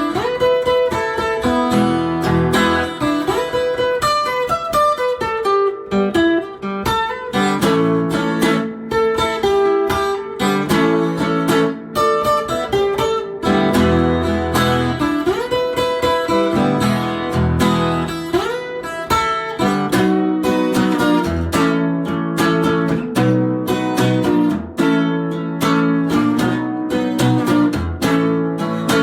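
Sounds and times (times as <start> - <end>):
strummed acoustic guitar: 0.0 - 29.0.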